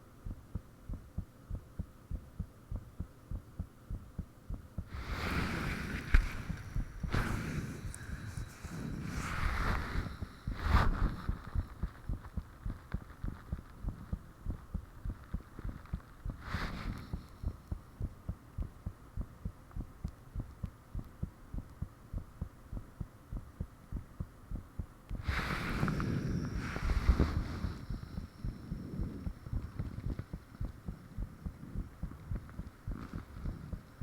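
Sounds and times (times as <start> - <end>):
heartbeat thumps: 0.0 - 5.1, 6.1 - 25.4, 26.4 - 34.0.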